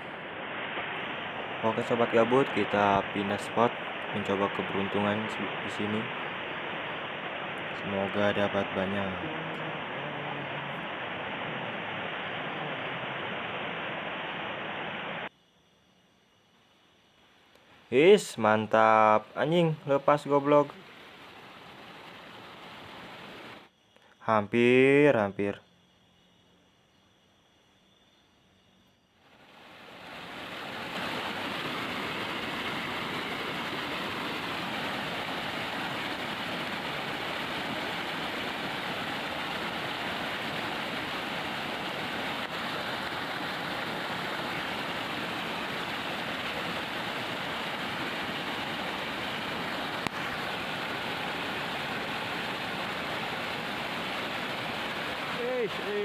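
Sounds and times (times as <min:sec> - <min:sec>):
flowing water rushing: 0:00.0 - 0:15.3, 0:18.0 - 0:23.7, 0:29.2 - 0:56.0.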